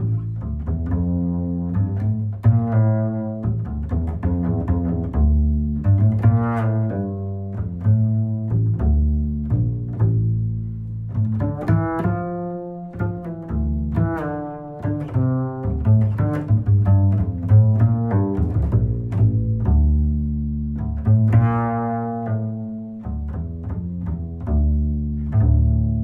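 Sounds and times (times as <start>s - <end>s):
instrumental background music: 0.0s - 26.0s.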